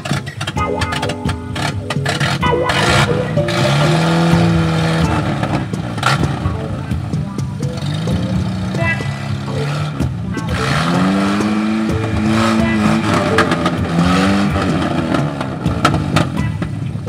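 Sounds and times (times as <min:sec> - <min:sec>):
off-road vehicle engine revving: 0:00.0 - 0:17.0
tyres and suspension knocking: 0:00.0 - 0:17.0.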